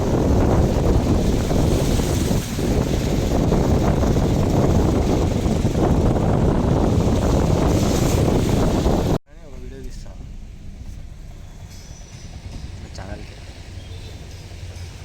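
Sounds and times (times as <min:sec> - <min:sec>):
wind buffeting microphone: 0:00.0 - 0:09.2, 0:09.9 - 0:15.0.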